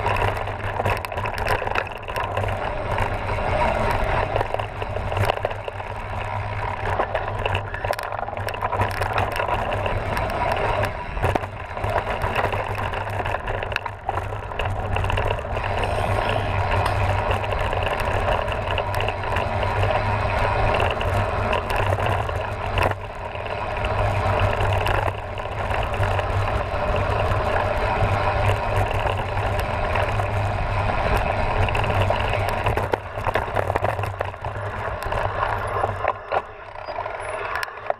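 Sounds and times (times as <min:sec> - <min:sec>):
bike rattling and clattering: 0:00.0 - 0:37.9
bike tyres on gravel: 0:00.0 - 0:37.9.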